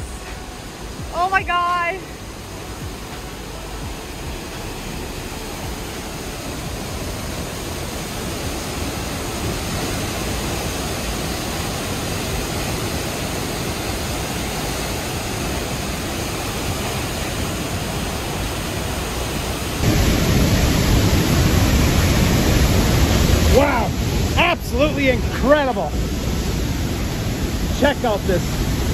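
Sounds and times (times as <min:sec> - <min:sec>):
waterfall rushing water: 0:00.0 - 0:28.9.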